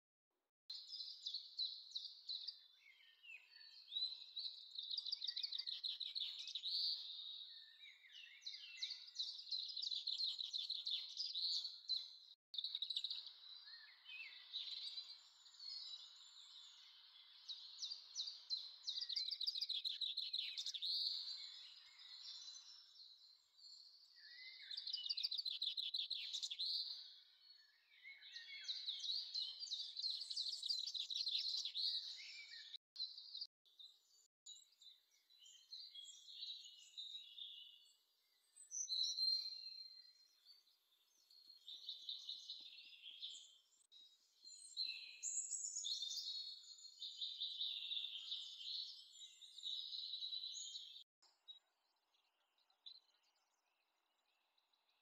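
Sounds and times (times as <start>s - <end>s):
small birds chirping and trilling: 0.7s - 55.0s.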